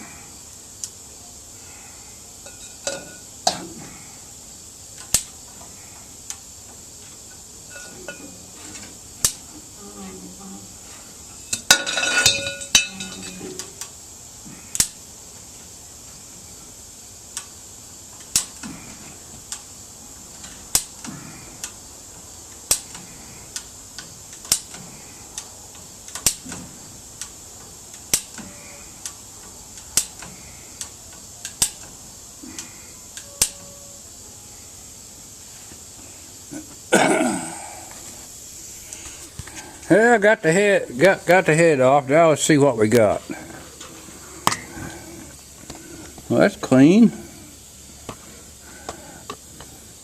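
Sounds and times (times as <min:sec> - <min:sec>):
faint steady hiss: 0:00.0 - 0:50.0.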